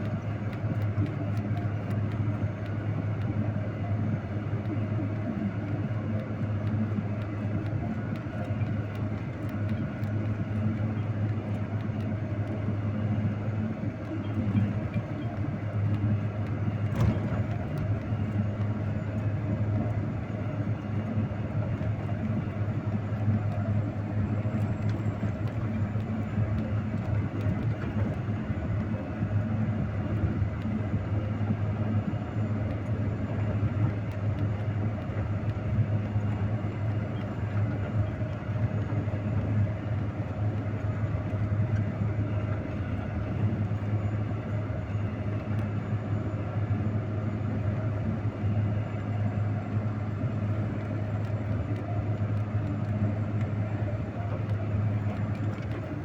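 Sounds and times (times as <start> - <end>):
vehicle engine running steadily: 0.0 - 56.0.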